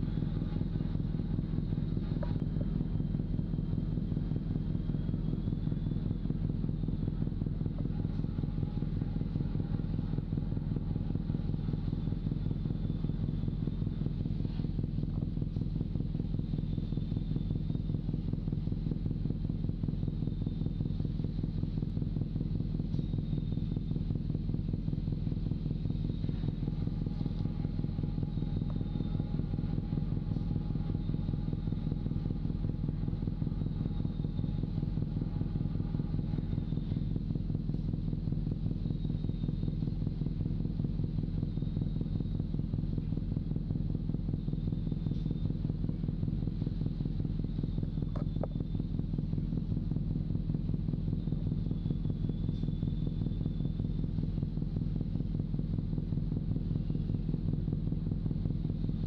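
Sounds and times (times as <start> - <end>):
large engine droning: 0.0 - 59.0.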